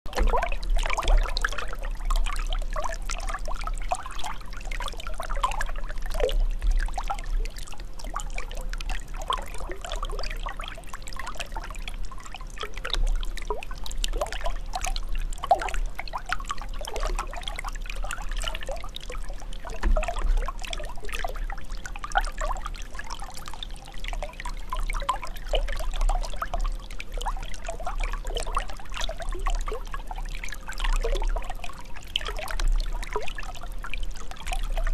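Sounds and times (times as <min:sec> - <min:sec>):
water trickling and bubbling: 0:00.1 - 0:34.9.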